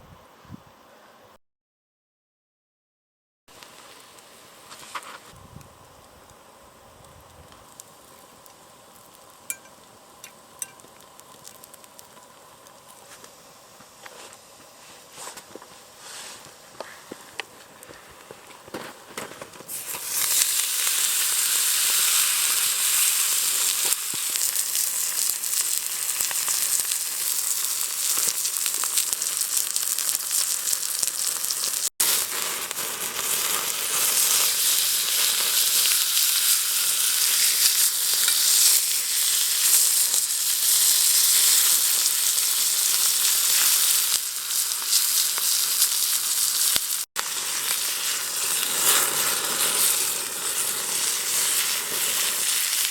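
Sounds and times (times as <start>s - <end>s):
steak sizzling on griddle: 3.5s - 13.7s, 19.2s - 52.9s.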